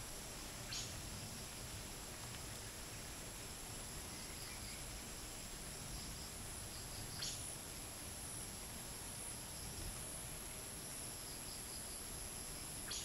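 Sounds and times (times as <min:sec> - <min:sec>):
crickets and cicadas drone: 0:00.0 - 0:13.0
light wind rumbling: 0:00.0 - 0:13.0.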